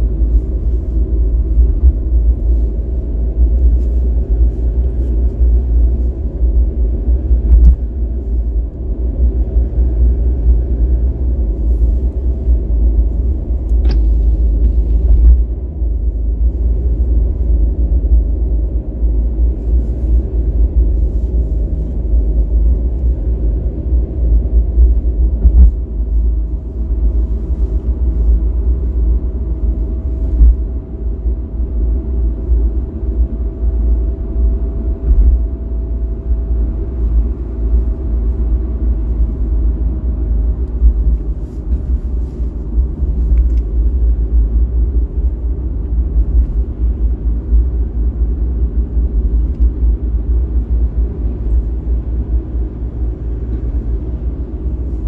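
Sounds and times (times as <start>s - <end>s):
car driving rumble: 0.0s - 55.0s
faint steady whine: 0.0s - 55.0s.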